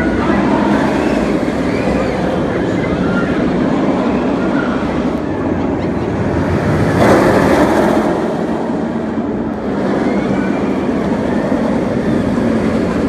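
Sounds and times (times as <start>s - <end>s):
roller coaster wheels rumbling on rail: 0.0s - 13.0s.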